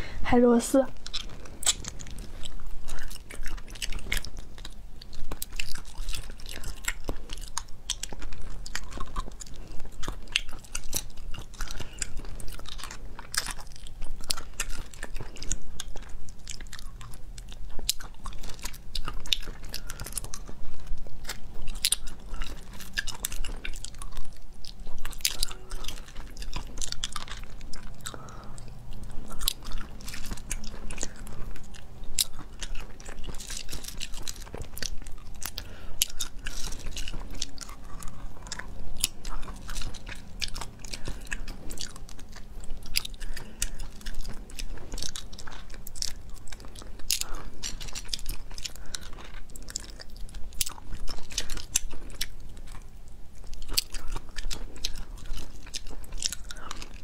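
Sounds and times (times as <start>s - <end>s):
sucking and chewing snails: 0.0s - 57.0s
mouth clicks and smacks: 0.9s - 57.0s.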